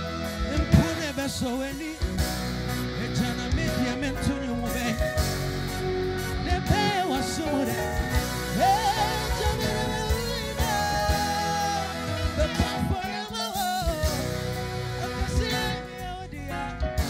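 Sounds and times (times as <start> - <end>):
drum kit with cymbals: 0.0 - 17.0
person singing: 0.2 - 2.4, 3.0 - 5.4, 6.3 - 17.0.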